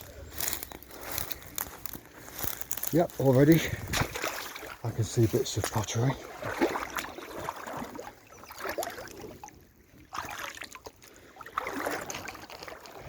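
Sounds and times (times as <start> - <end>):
boots splashing through water: 0.3 - 13.0.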